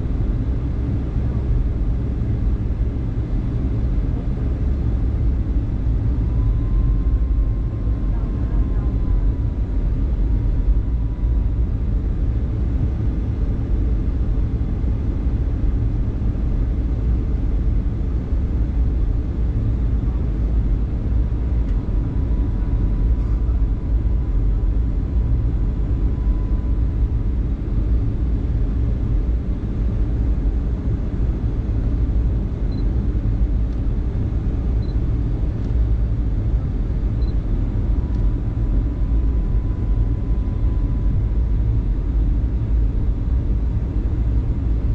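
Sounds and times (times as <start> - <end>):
aircraft engines low rumble: 0.0 - 44.9.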